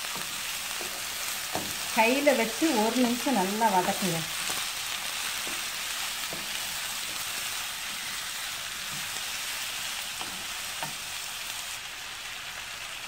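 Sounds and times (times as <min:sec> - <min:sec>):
wooden spatula stirring in pan: 0:00.0 - 0:11.7
vegetables frying sizzle: 0:00.0 - 0:13.0.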